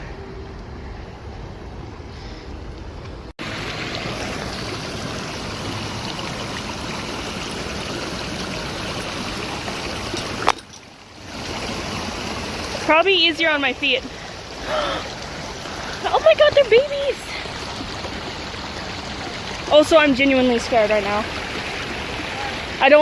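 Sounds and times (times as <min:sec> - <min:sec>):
stream water rushing: 0:03.4 - 0:23.0.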